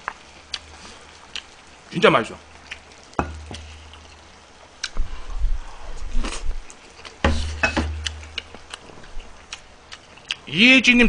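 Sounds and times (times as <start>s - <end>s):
man chewing: 0.0s - 1.9s, 2.5s - 10.5s.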